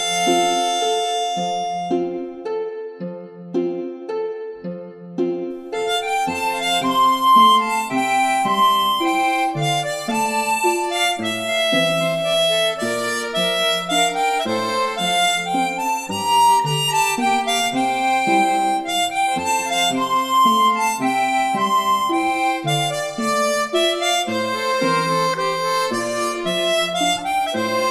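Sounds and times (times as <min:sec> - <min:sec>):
background music with held notes: 0:00.0 - 0:27.9.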